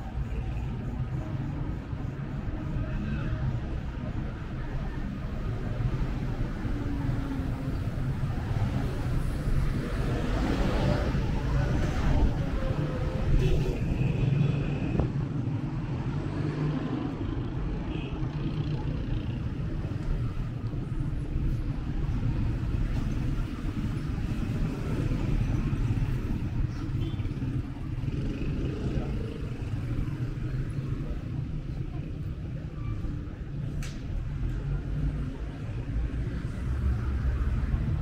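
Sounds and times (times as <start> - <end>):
faint voices of passers-by: 0.0 - 38.0
low rumble of city traffic: 0.0 - 38.0.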